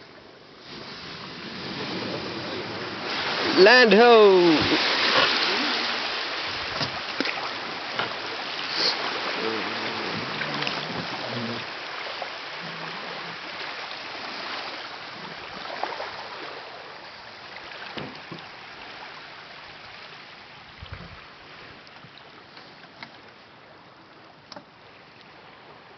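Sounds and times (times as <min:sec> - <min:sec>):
water lapping on beach: 0:00.0 - 0:25.9.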